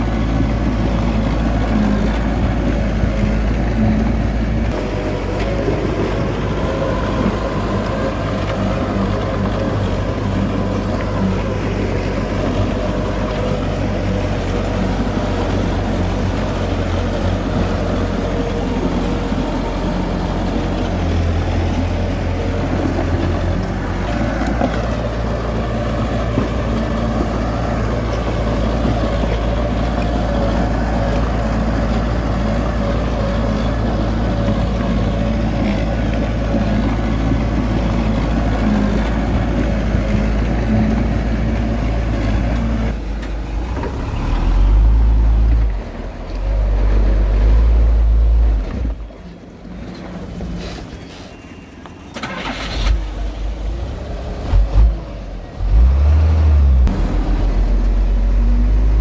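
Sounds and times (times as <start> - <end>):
heavy diesel machinery engine running: 0.0 - 59.0.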